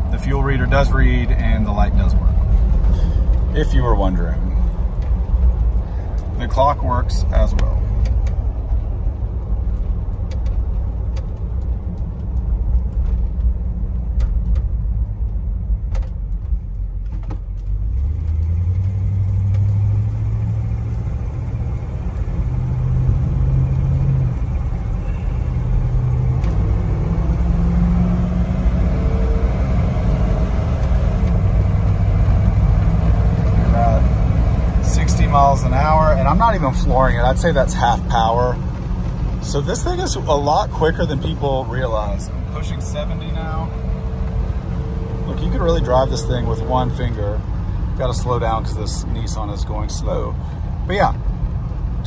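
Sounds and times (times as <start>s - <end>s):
car engine accelerating: 0.0s - 52.0s
road rumble: 0.0s - 52.0s.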